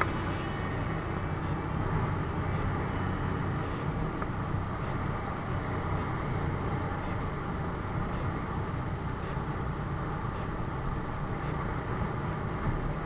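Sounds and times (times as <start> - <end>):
road noise: 0.0 - 13.0
wind noise: 0.0 - 13.0.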